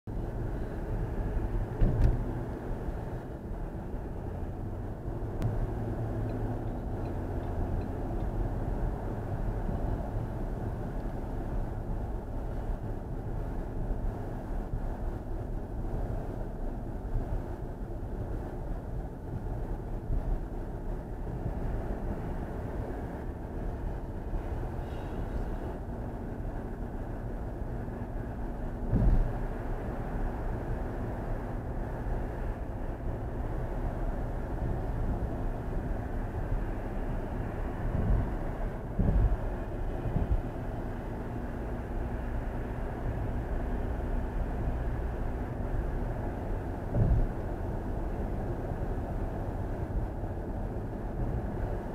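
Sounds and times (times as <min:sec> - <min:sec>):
road and tyre noise: 0:00.0 - 0:51.9.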